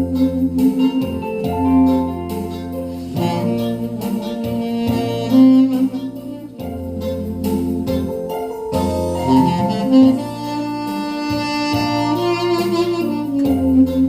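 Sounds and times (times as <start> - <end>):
saxophone melody: 0.0 - 14.0
steady bass line: 0.0 - 14.0.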